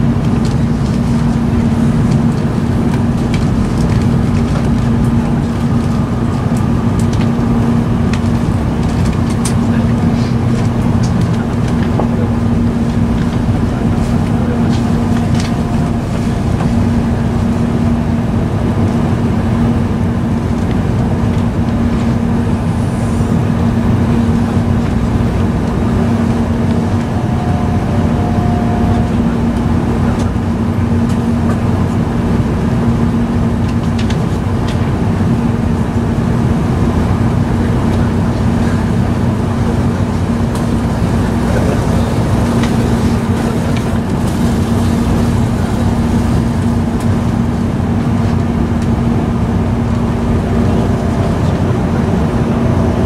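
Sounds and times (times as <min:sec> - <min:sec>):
constant low hum: 0:00.0 - 0:53.0
train running rumble: 0:00.0 - 0:53.0.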